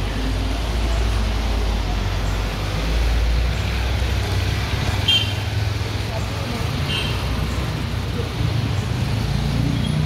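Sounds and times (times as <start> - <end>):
tyres hissing on wet road: 0.0 - 10.0
vehicle engines rumbling: 0.0 - 10.0.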